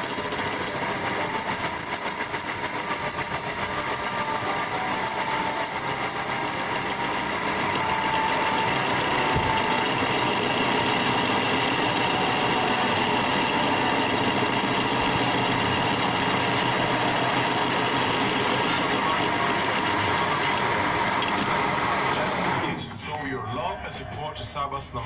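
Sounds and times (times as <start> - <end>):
faint high whining tones: 0.0 - 21.2
loud machine noise: 0.0 - 23.0.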